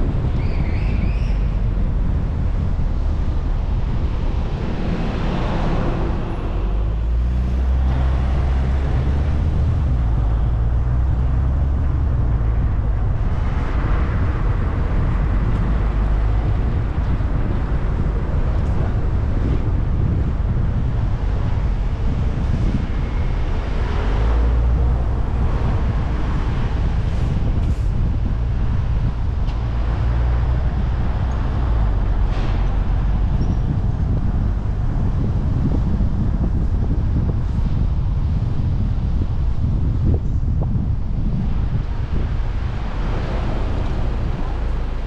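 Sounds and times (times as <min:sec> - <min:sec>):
car road and engine rumble: 0:00.0 - 0:45.0.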